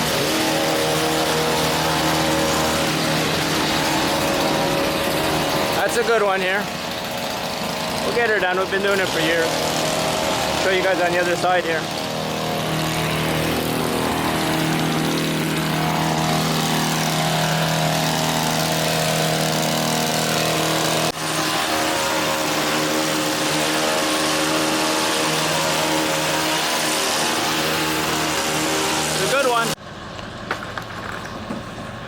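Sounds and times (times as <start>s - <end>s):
hedge trimmer running: 0.0s - 32.0s.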